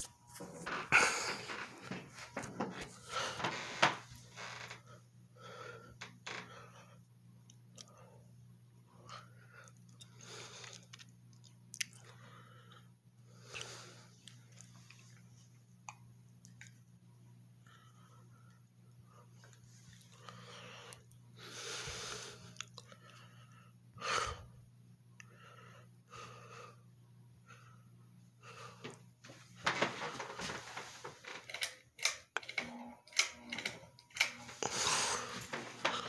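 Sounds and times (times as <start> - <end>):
ceiling fan motor humming: 0.0 - 36.0.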